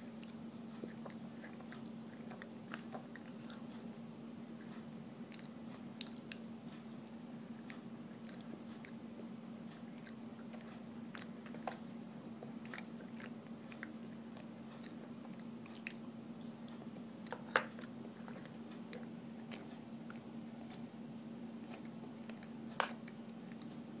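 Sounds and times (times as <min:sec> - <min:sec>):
chewing with crunchy clicks: 0:00.0 - 0:21.0, 0:21.6 - 0:23.9
steady low hum: 0:00.0 - 0:24.0.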